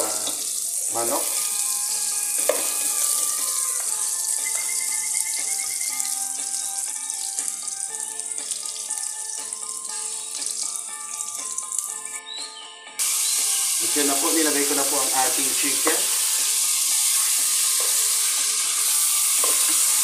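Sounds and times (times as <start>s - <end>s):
onions sizzling in hot oil: 0.0s - 11.9s, 13.0s - 20.0s
plucked background music: 0.0s - 20.0s.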